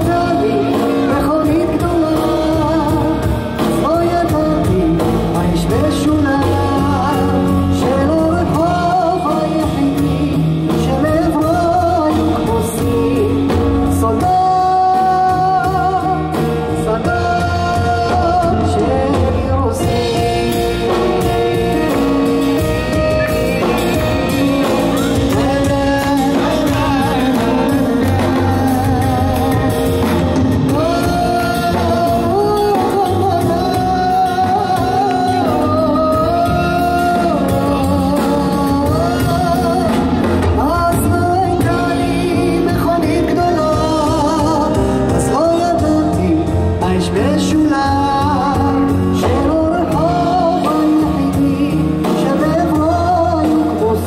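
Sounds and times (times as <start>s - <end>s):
digital stage piano: 0.0s - 54.0s
man singing with vibrato: 0.0s - 54.0s
upright double bass: 0.0s - 54.0s.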